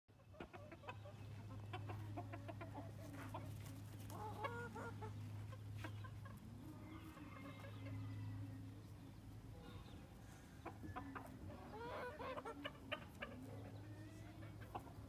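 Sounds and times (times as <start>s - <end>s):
chickens clucking: 0.1s - 15.0s.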